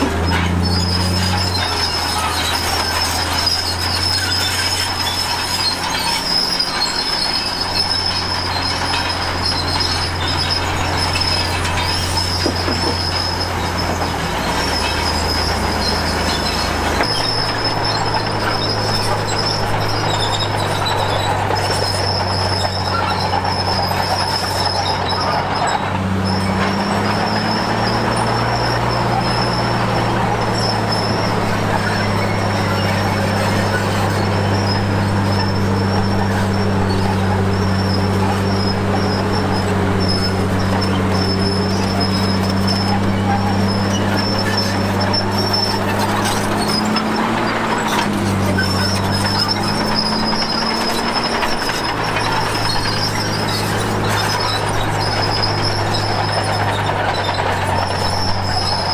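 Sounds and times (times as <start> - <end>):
bulldozer engine running: 0.0 - 58.9
steel tracks squealing: 0.0 - 58.9.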